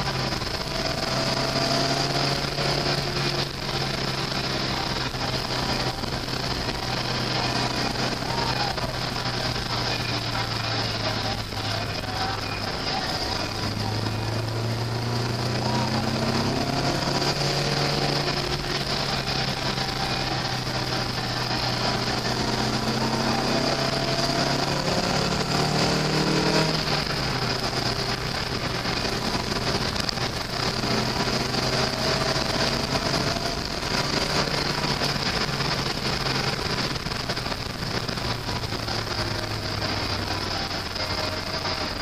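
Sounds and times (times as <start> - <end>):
sports car engine running: 0.0 - 42.0
wind and road noise: 0.0 - 42.0.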